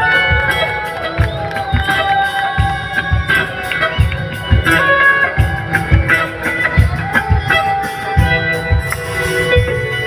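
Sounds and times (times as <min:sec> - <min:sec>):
drum beat: 0:00.0 - 0:10.0
electric guitar: 0:00.0 - 0:10.0.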